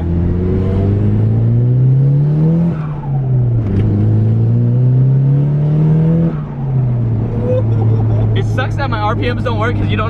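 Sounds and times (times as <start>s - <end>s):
turbocharged car engine accelerating: 0.0s - 10.0s.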